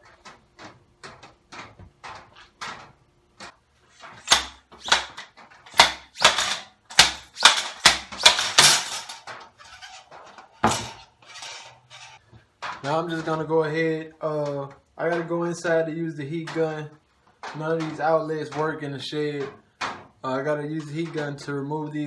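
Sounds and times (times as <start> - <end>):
parts rustling and clattering: 0.0 - 21.6.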